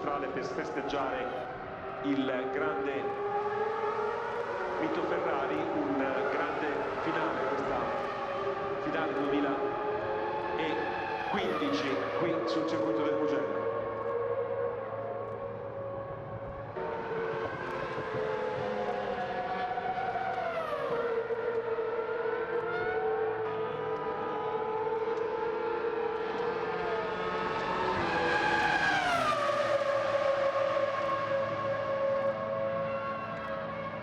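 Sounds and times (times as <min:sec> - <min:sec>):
racing car engines revving: 0:00.0 - 0:34.0.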